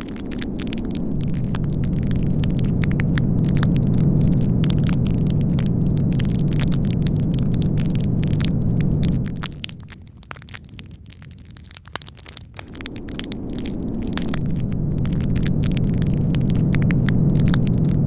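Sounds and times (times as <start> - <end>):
dense crackling: 0.0 - 18.0
storm wind roaring: 0.0 - 18.0.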